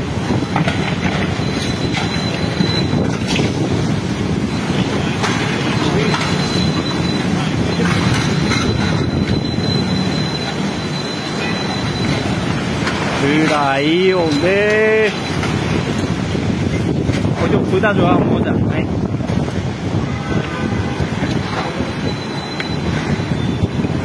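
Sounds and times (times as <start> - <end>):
strong storm wind rushing: 0.0 - 24.0.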